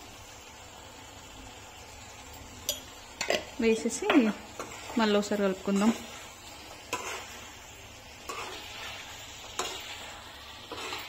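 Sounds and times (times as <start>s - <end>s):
liver sizzling in a pan: 0.0s - 11.0s.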